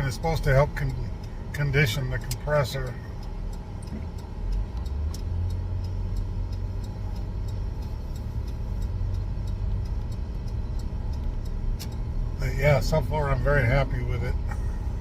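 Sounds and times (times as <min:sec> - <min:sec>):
car engine running: 0:00.0 - 0:15.0
faint regular ticking: 0:00.0 - 0:15.0.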